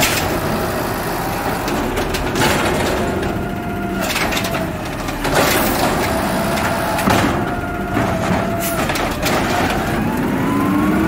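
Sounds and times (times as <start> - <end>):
garbage cart clanking: 0.0 - 11.0
hydraulic whine: 0.0 - 11.0
truck whine rising in pitch: 0.0 - 11.0.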